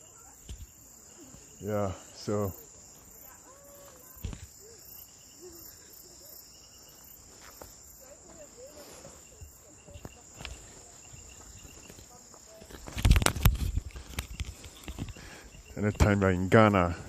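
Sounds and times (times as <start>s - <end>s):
insect pulsed chirps: 0.0s - 16.9s
insects droning: 0.0s - 17.0s.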